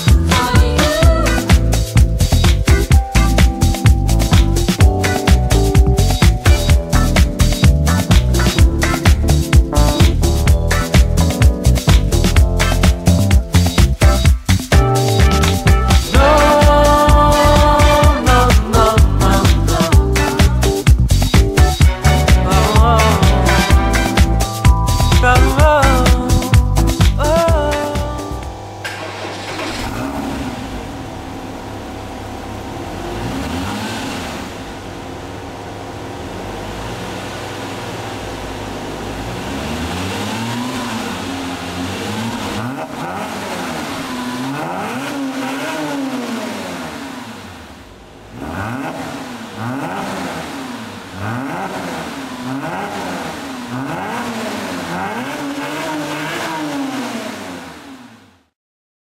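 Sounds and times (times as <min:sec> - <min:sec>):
car engine revving: 0:00.0 - 0:58.6.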